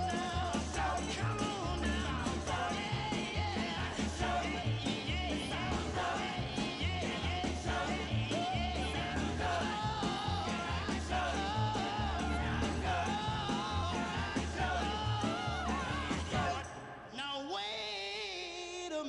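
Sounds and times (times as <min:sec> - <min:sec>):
song with sung lead vocal: 0:00.0 - 0:19.0.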